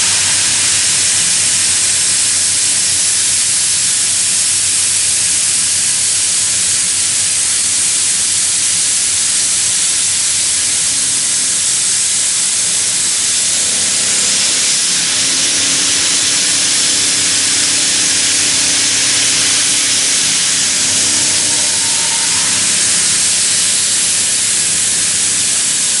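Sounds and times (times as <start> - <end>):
loud spraying hiss: 0.0 - 26.0.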